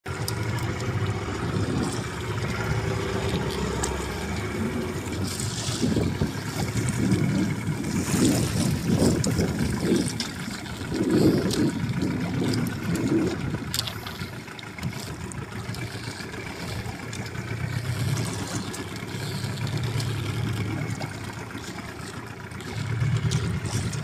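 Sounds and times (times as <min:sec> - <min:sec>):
boat engine running low: 0:00.0 - 0:24.0
water splashing against hull: 0:00.0 - 0:24.0.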